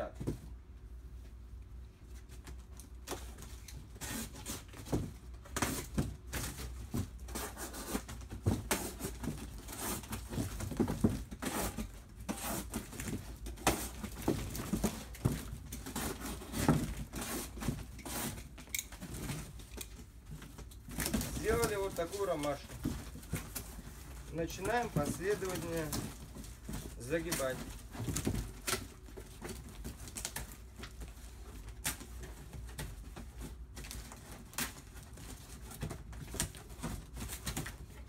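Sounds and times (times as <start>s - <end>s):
cardboard box scraping and crackling: 5.5s - 20.1s, 20.7s - 38.0s.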